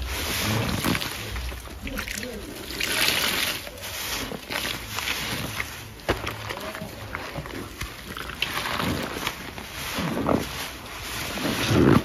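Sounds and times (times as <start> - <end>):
hands squishing foam in water: 0.0 - 12.0.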